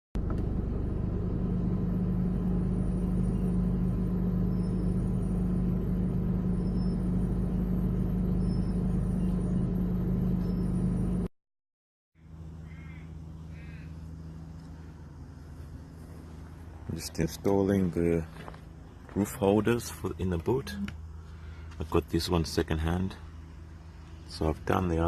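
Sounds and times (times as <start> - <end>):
car engine idling: 0.2 - 11.3, 12.2 - 25.0.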